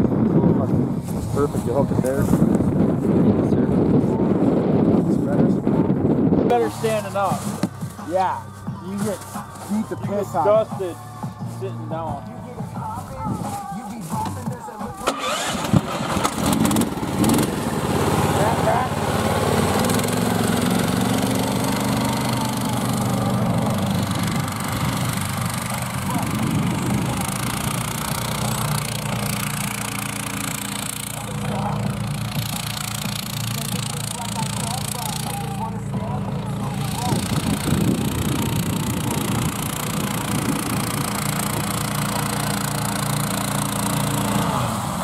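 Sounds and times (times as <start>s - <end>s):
small four-stroke engine running: 1.3s - 45.0s.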